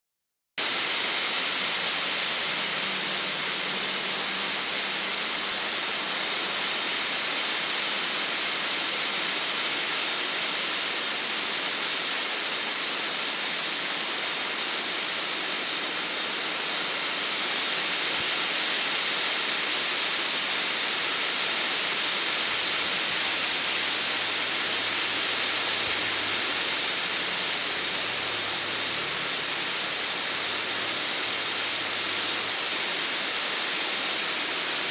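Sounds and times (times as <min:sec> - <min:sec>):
rain pouring on foliage: 0:00.6 - 0:34.9.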